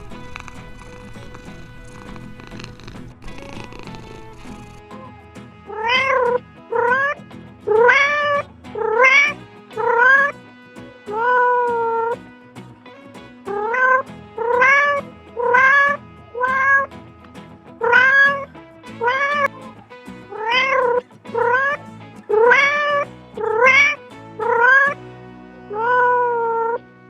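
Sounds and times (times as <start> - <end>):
cat meowing: 0.0 - 10.3, 11.1 - 12.2, 13.5 - 16.9, 17.8 - 19.5, 20.3 - 25.0, 25.7 - 26.8.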